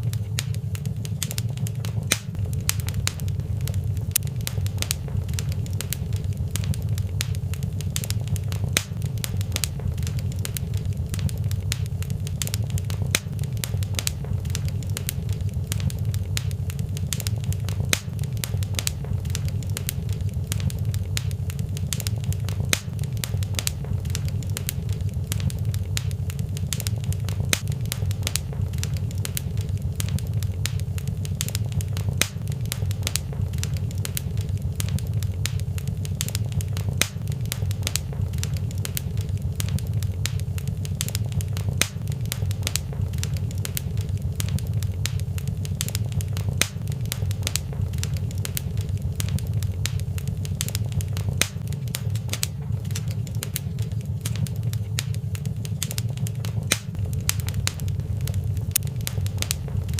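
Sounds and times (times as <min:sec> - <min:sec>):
fire crackling and popping: 0:00.0 - 0:59.9
fire flames rumbling: 0:00.0 - 0:59.9.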